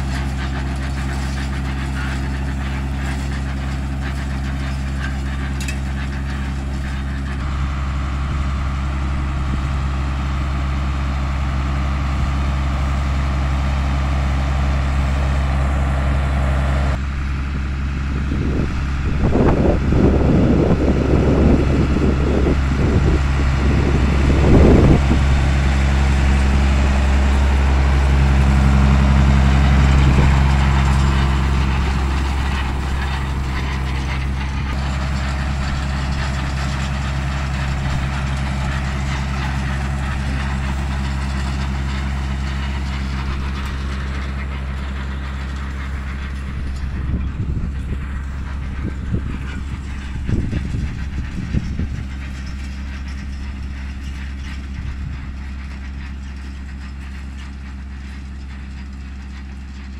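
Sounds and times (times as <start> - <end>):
rough raking noise: 0.0 - 7.9, 18.6 - 59.9
tractor diesel engine running: 0.0 - 59.9.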